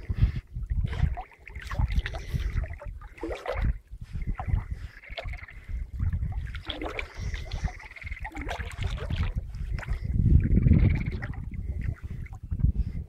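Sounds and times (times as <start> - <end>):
wind rumbling on microphone: 0.0 - 13.0
water splashing from dog swimming: 0.7 - 12.6.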